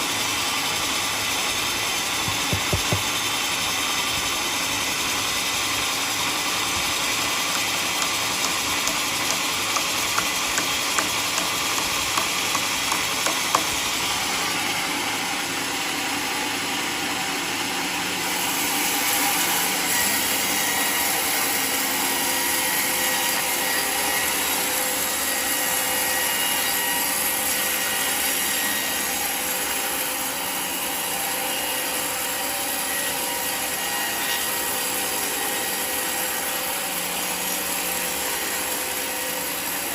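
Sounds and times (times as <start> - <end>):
sawmill sawing a log: 0.0 - 39.9.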